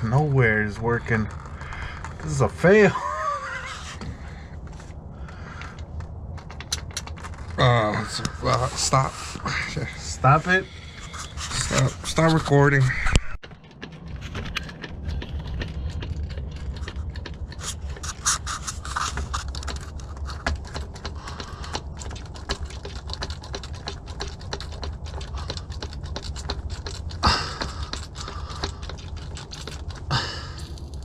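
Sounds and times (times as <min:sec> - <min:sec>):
hands clicking and scraping fittings: 0:00.0 - 0:31.0
steady low hum: 0:00.0 - 0:31.0.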